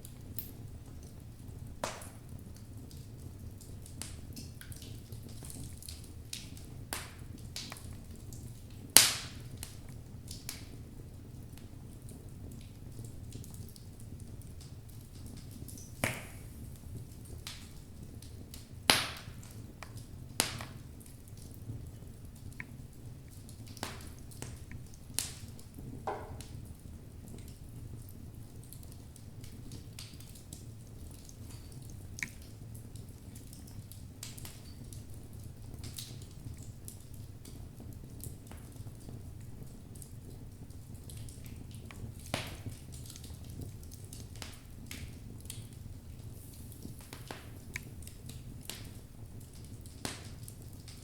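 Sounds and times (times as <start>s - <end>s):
logs crackling in fire: 0.0s - 51.0s
low rumble of flame: 0.0s - 51.0s
sharp pops from fire: 0.0s - 51.0s.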